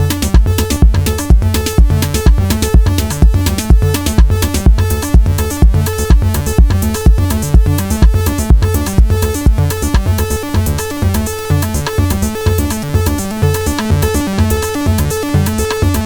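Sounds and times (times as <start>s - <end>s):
acid synth bassline: 0.0s - 16.0s
drum machine kick and hi-hats: 0.0s - 16.0s
synth lines: 0.0s - 16.0s.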